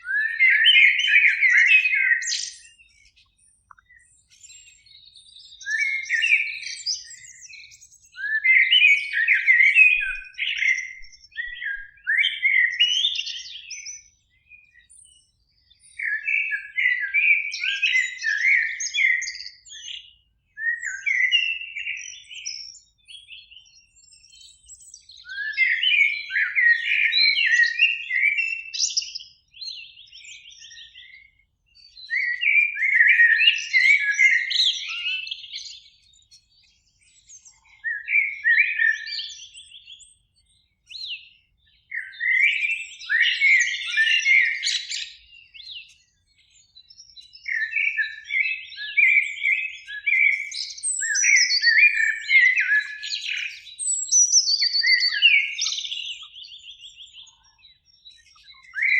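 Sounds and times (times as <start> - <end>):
blackbird singing: 0.0 - 58.9.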